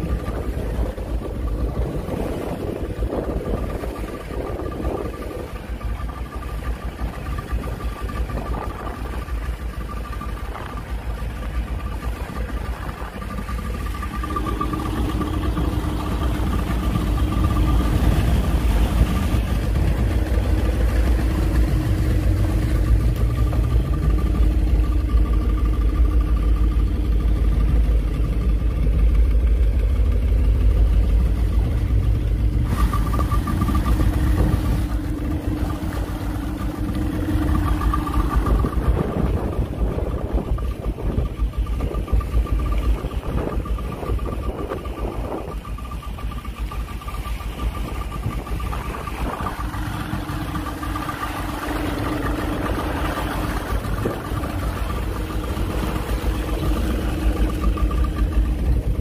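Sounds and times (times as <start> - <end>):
outboard motor running: 0.0 - 59.0
water rushing along hull: 0.0 - 59.0
wind: 0.0 - 59.0.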